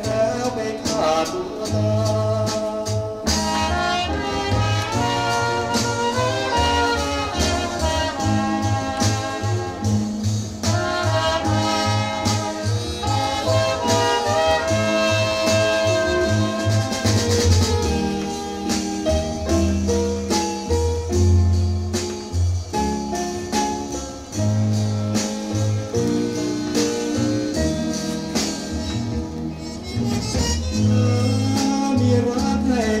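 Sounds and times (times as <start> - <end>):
held melody notes: 0.0 - 33.0
music from vinyl record: 0.0 - 33.0.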